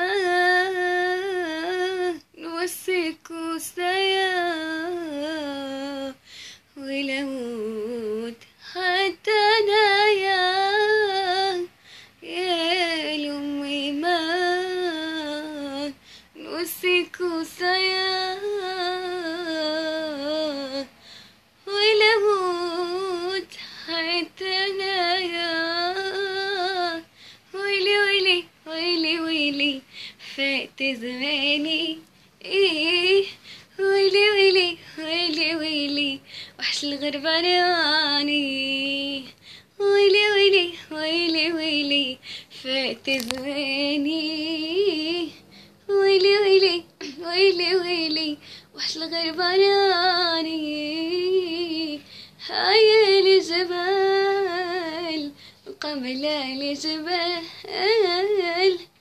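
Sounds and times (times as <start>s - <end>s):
woman singing unaccompanied: 0.0s - 59.0s.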